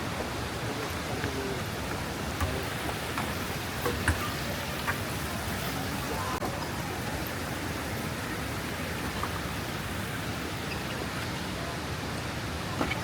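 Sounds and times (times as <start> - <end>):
river water rushing over waterfalls: 0.0 - 13.0.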